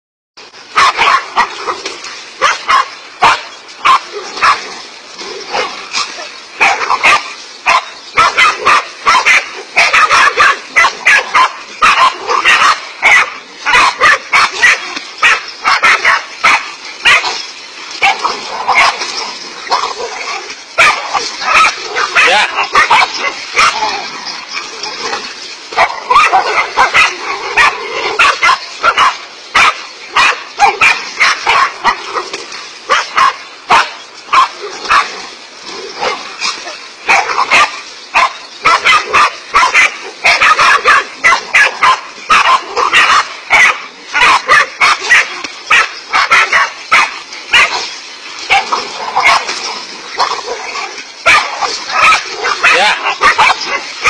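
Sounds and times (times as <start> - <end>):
dogs barking: 0.7 - 54.0.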